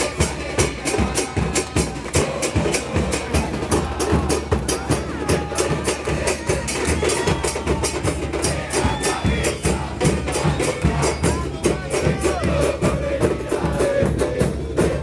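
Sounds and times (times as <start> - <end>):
percussion band playing: 0.0 - 15.0.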